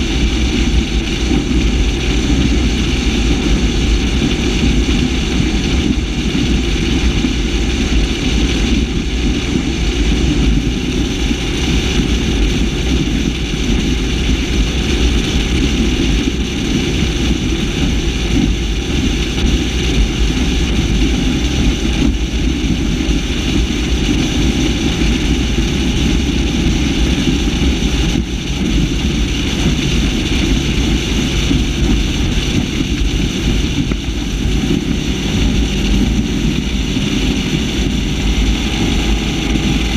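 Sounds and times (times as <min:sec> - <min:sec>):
boat engine running: 0:00.0 - 0:39.9
water against hull: 0:00.0 - 0:39.9
wind on microphone: 0:00.0 - 0:39.9.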